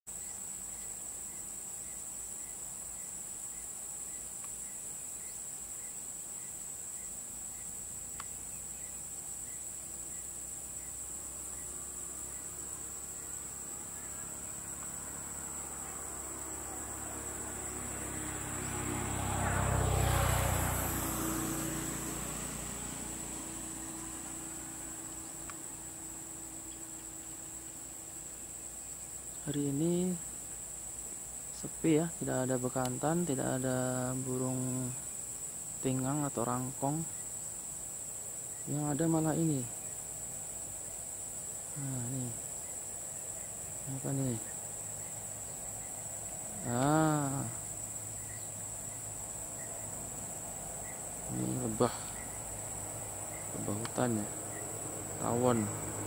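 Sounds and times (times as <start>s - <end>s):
insects droning: 0.1s - 56.0s
vehicle passing: 7.8s - 56.0s.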